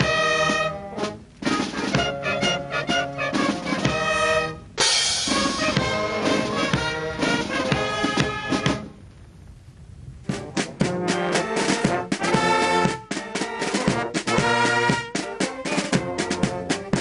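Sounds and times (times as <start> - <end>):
brass music with drums: 0.0 - 9.0, 10.1 - 17.0.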